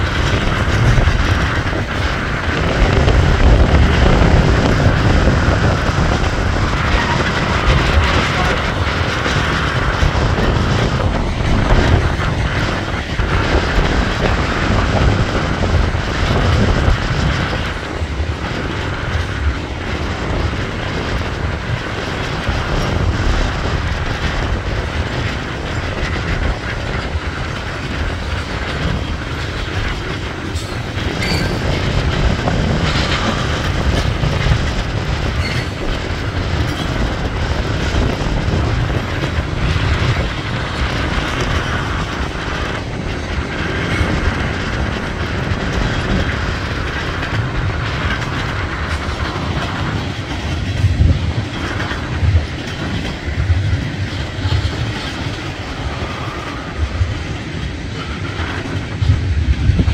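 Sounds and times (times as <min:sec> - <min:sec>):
steel wheels rumbling on rails: 0:00.0 - 0:59.9
wheels clacking over rail joints: 0:00.0 - 0:59.9.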